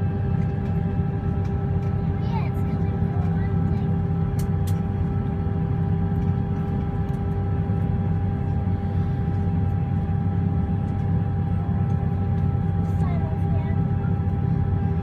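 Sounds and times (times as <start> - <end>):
airliner engine rumble: 0.0 - 15.0
steady two-tone hum: 0.0 - 15.0.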